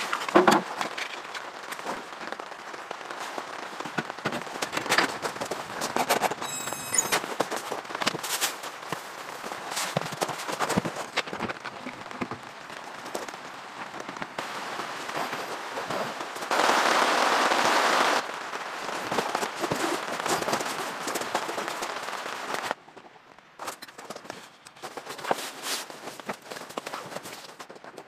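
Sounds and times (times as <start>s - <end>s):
rain pattering on a tarp: 0.0s - 6.5s, 7.2s - 28.0s.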